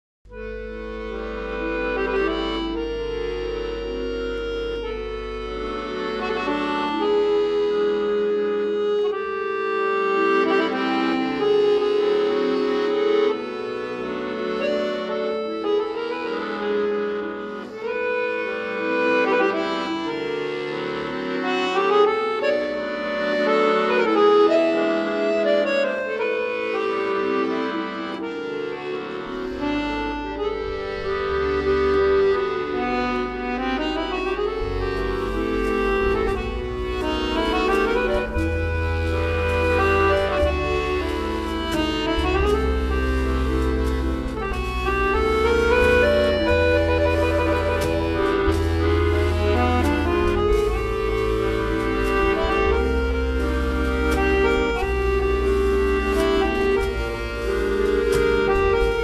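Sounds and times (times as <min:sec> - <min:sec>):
accordion duet playing a melody: 0:00.3 - 0:59.0.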